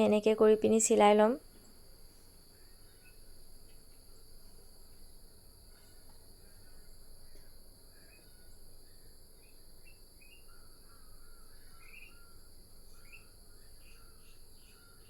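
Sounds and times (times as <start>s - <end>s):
faint bird chirps: 1.6s - 15.0s.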